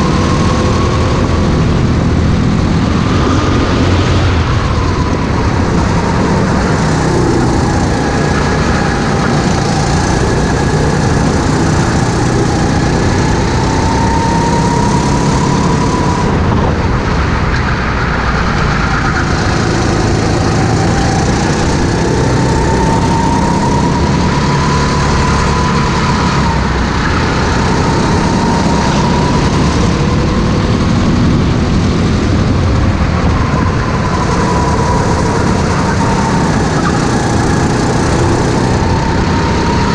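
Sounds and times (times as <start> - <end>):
go-kart engine revving: 0.0 - 39.9
wind rushing over microphone: 0.0 - 39.9.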